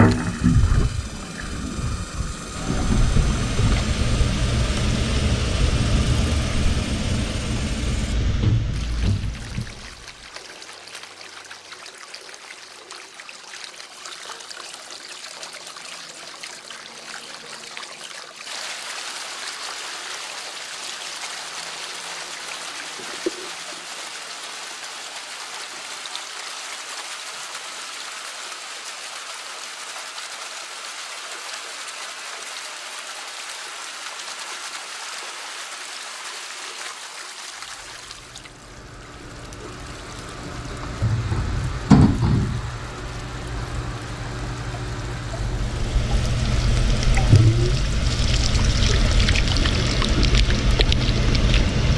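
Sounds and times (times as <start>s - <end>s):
water flowing from pipes: 0.0s - 51.9s.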